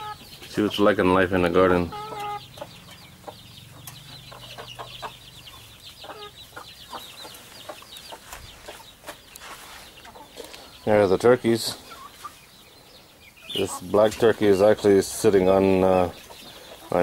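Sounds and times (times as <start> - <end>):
chicks peeping: 0.0 - 17.0
hen clucking: 0.0 - 17.0.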